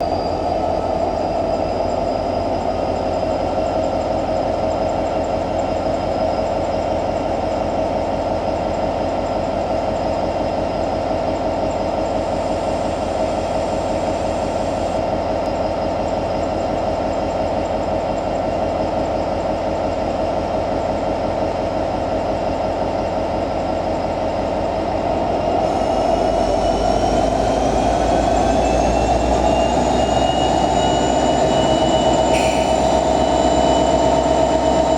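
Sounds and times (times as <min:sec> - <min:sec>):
locomotive diesel engine idling: 0:00.0 - 0:34.9.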